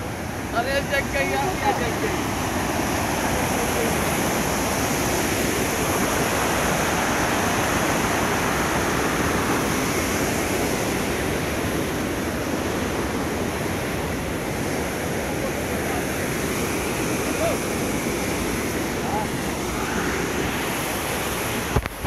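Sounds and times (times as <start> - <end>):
water rushing over boulders: 0.0 - 22.0.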